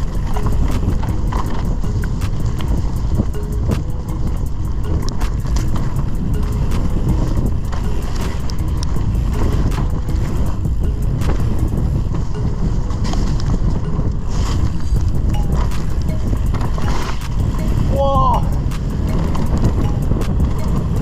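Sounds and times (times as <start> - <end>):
bike rattling clicks: 0.0 - 21.0
wind rumble on microphone: 0.0 - 21.0.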